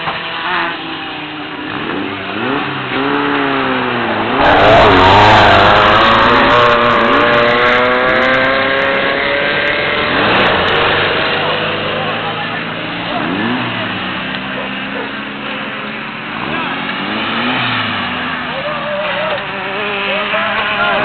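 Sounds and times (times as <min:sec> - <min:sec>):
race vehicle engines revving: 0:00.0 - 0:21.0
vehicle passing close: 0:01.8 - 0:21.0.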